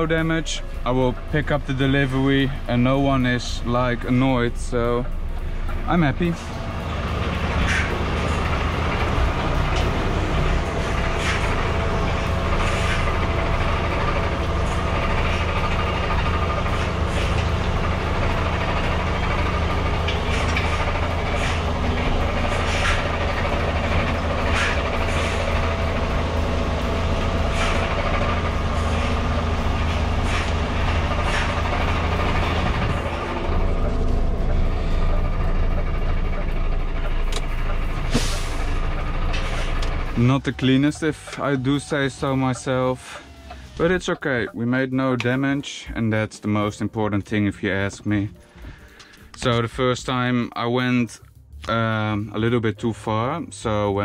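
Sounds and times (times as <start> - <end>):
diesel truck engine rumbling: 0.0 - 54.0.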